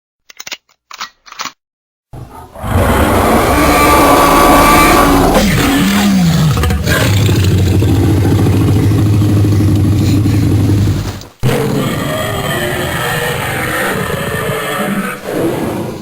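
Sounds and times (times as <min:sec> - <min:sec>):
dinosaur roar: 0:02.2 - 0:16.0
low dinosaur growl: 0:02.2 - 0:16.0.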